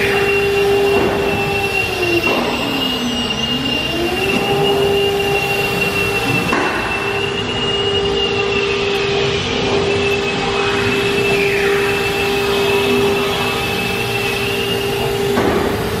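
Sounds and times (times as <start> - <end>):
router spindle whine: 0.0 - 16.0
rushing machine noise: 0.0 - 16.0.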